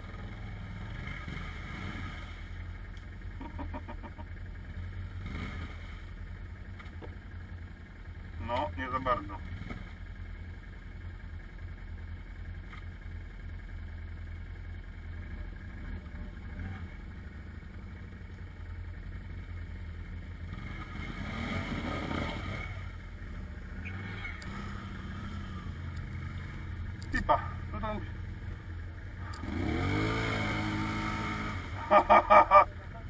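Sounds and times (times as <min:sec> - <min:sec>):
atv engine idling: 0:00.0 - 0:33.0
atv revving: 0:00.0 - 0:33.0.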